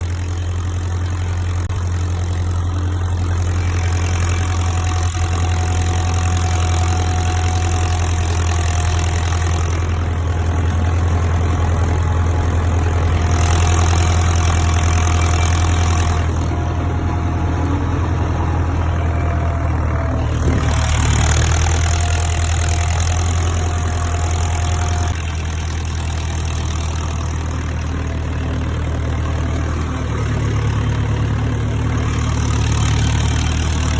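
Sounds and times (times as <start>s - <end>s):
tractor diesel engine droning: 0.0s - 33.9s.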